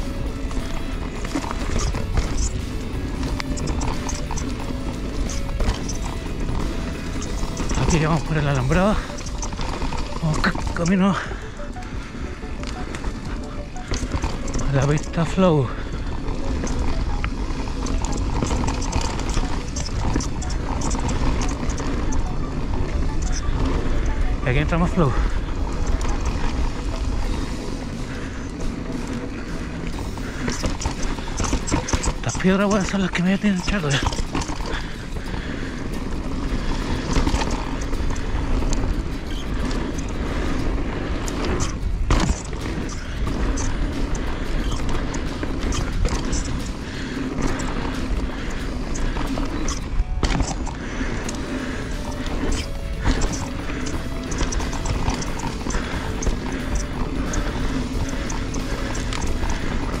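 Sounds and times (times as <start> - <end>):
bike chain and frame clattering: 0.0 - 60.0
bike tyres on dirt and stones: 0.0 - 60.0
low wind rumble on microphone: 0.0 - 60.0.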